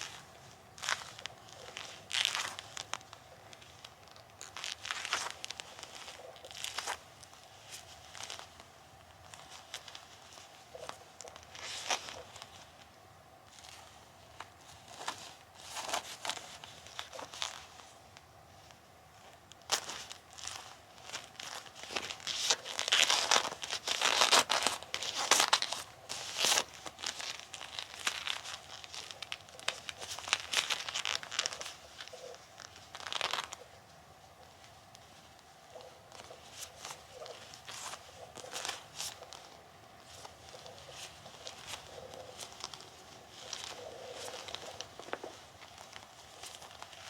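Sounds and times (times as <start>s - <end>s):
rubber gloves rubbing and crinkling: 0.0s - 47.0s.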